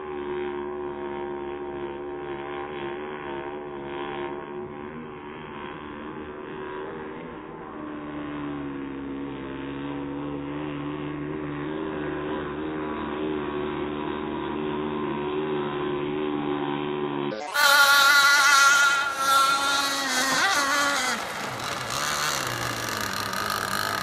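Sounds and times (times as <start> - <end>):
slowed motor drone: 0.0 - 24.0.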